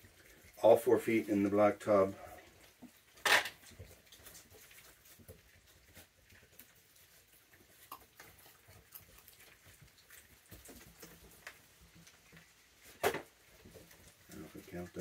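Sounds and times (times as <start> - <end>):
animals rustling: 0.0 - 15.0.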